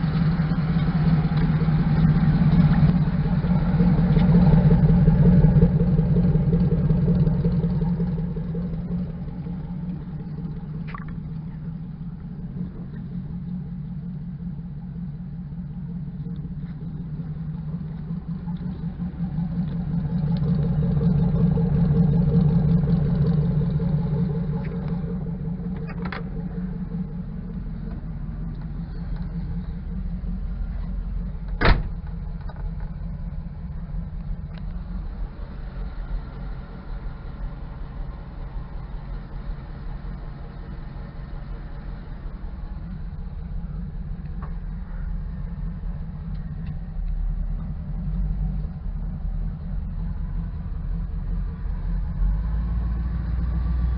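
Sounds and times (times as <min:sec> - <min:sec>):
truck engine idling: 0:00.0 - 0:53.9.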